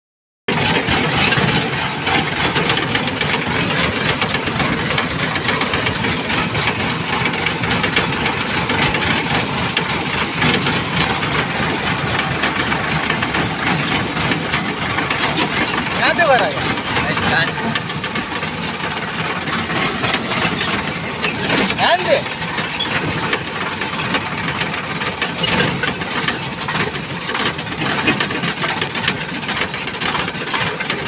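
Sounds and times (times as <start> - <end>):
diesel engines running: 0.5 - 31.0.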